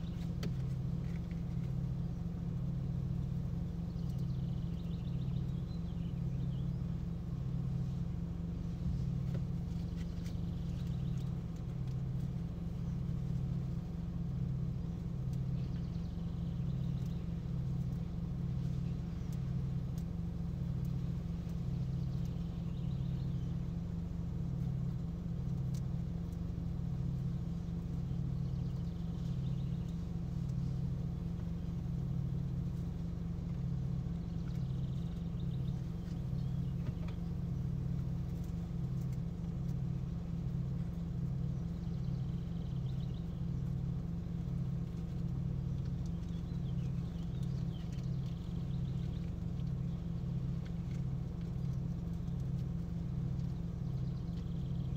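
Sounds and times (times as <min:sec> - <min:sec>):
pulsing low drone: 0:00.0 - 0:54.9.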